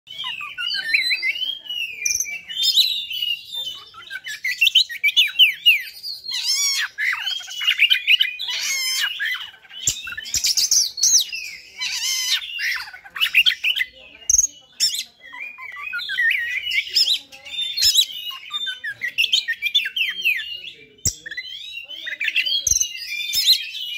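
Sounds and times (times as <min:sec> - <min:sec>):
songbird singing whistles and chirps: 0:00.1 - 0:23.9.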